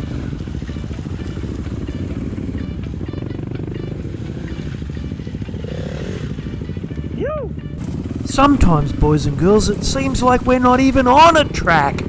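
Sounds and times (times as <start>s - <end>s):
background music: 0.0s - 12.0s
dirt bike engine running: 0.0s - 12.0s.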